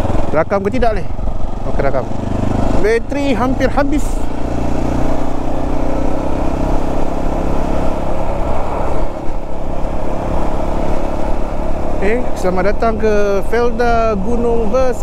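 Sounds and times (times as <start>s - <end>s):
motorcycle engine running: 0.0s - 15.0s
wind and road rush: 0.0s - 15.0s.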